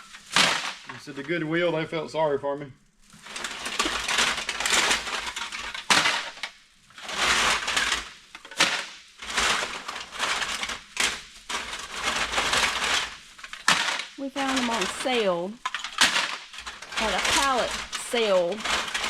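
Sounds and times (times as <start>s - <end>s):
empty cans rattling and crunching: 3.2s - 19.0s.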